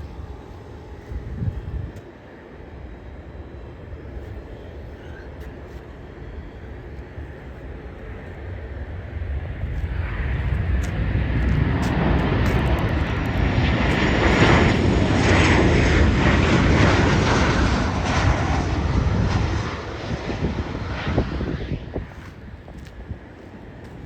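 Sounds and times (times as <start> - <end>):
jet airliner engines passing: 0.0 - 24.0.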